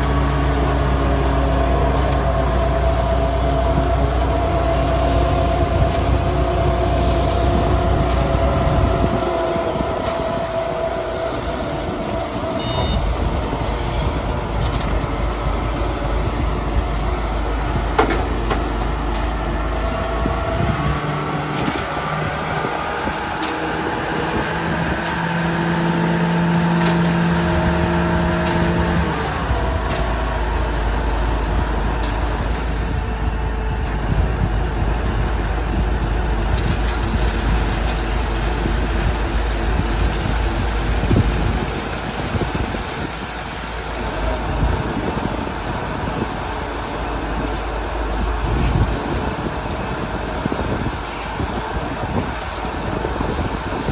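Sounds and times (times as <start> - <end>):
concrete mixer truck drone: 0.0 - 53.9.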